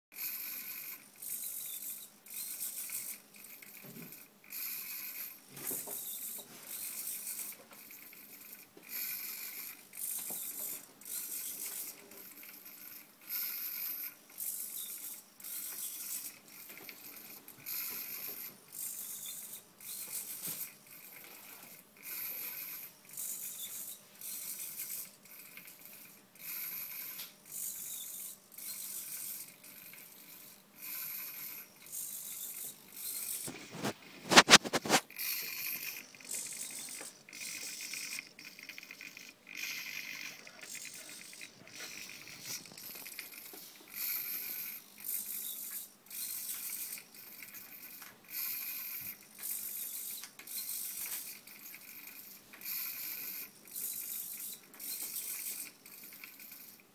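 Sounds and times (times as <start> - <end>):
servo motors whirring: 0.2 - 56.8.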